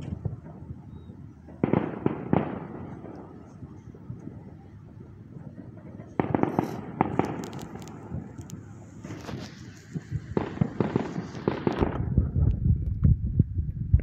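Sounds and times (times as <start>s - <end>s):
fireworks popping and crackling: 0.0s - 13.2s
low fireworks rumble: 0.0s - 14.0s.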